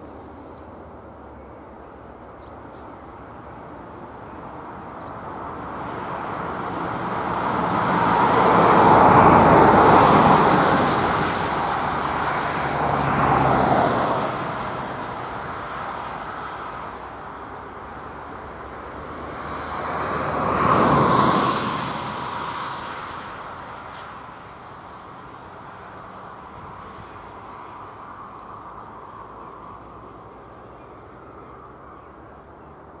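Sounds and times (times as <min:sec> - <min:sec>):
road vehicles driving past: 0:00.0 - 0:33.0.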